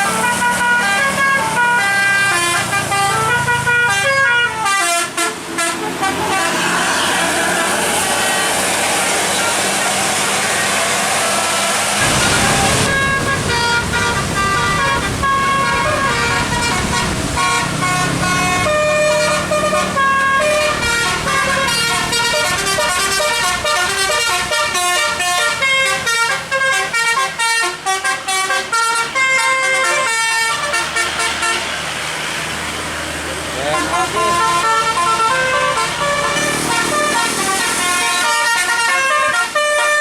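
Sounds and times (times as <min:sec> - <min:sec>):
musical air horn playing a tune: 0:00.0 - 0:07.0, 0:12.0 - 0:31.7, 0:33.6 - 0:40.0.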